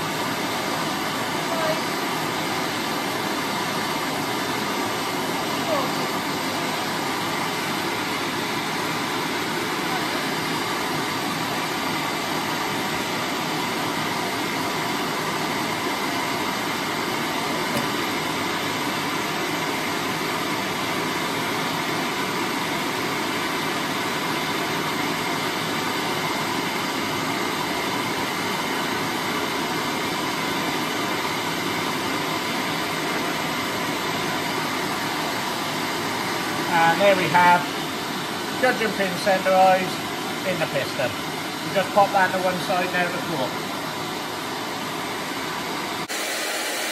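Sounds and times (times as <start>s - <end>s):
blowtorches hissing: 0.0s - 46.9s.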